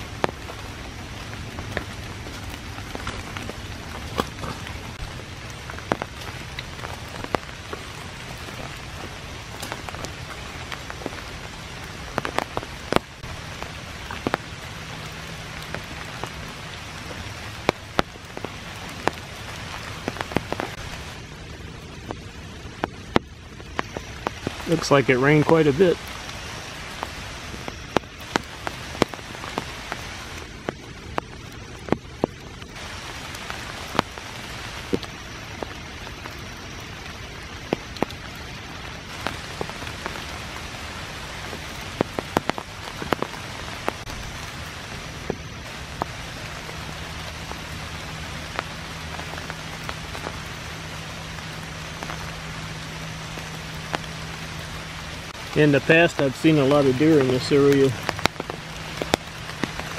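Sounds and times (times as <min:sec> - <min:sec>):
rain hiss: 0:00.0 - 0:59.9
raindrops tapping leaves: 0:00.0 - 0:59.9.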